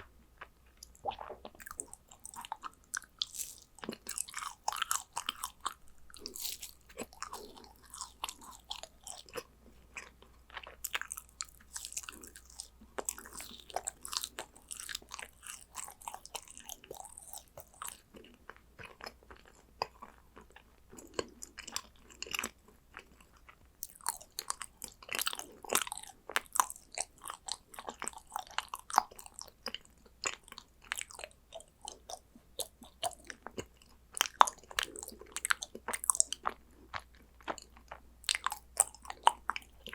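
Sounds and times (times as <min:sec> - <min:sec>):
person chewing crunchy cookies: 0:00.0 - 0:39.9.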